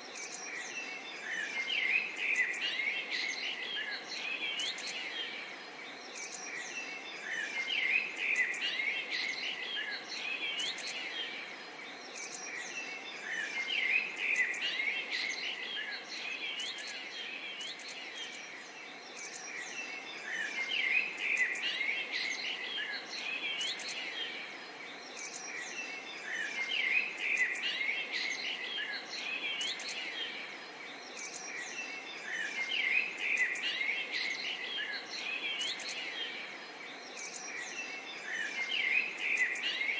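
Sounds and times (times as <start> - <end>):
low background hiss: 0.0 - 39.9
songbirds chirping: 0.0 - 39.9.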